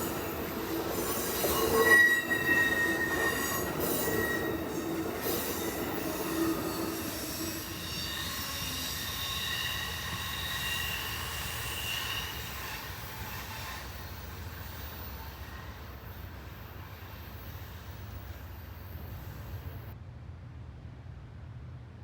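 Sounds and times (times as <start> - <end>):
train wheels squealing: 0.0 - 20.0
low rumble of train: 0.0 - 22.0.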